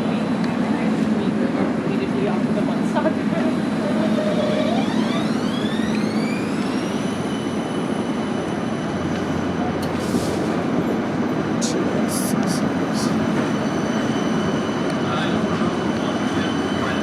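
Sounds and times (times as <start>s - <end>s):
tram motors whining: 0.0s - 17.0s
tram running noise: 0.0s - 17.0s.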